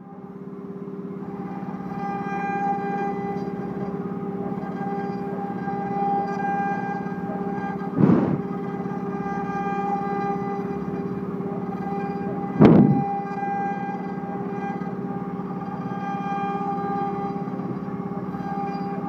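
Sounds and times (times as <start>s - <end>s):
cnc router whine carving wood: 0.0s - 19.0s.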